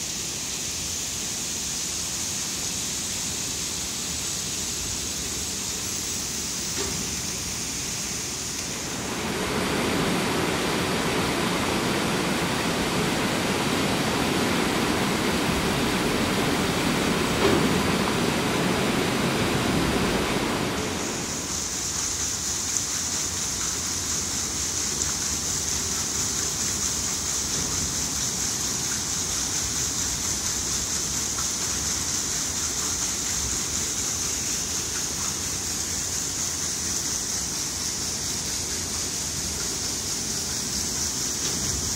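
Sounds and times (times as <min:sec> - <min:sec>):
water rushing from waterwheel: 0:00.0 - 0:41.9.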